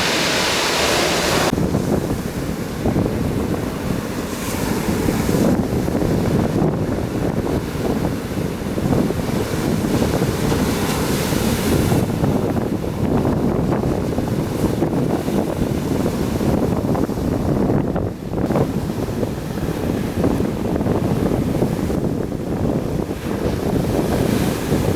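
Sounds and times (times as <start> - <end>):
sea surf breaking on shore: 0.0 - 24.9
wind buffeting microphone: 0.0 - 24.9.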